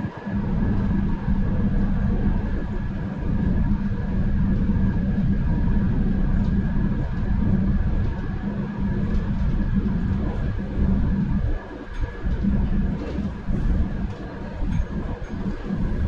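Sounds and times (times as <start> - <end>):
constant electric hum: 0.0 - 16.0.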